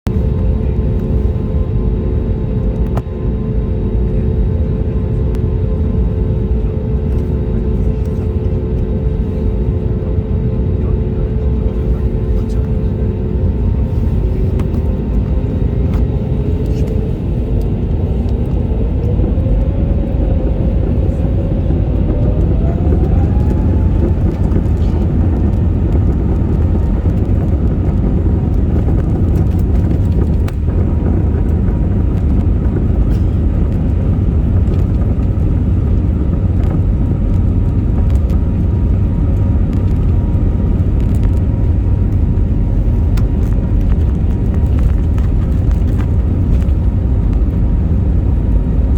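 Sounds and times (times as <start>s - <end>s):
low rumble of takeoff run: 0.0s - 48.9s
jet engines whine spooling up: 0.1s - 48.9s.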